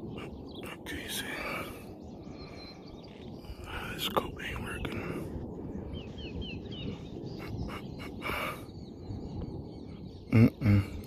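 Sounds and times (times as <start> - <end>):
small bird chirping: 0.0 - 5.2, 5.8 - 11.0
low outdoor rumble: 0.0 - 11.0.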